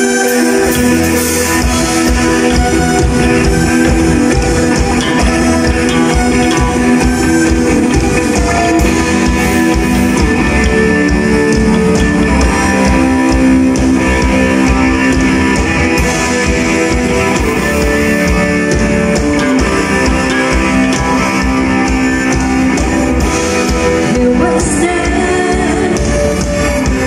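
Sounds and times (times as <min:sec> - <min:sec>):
drum kit: 0:00.0 - 0:27.0
electric guitars: 0:00.0 - 0:27.0.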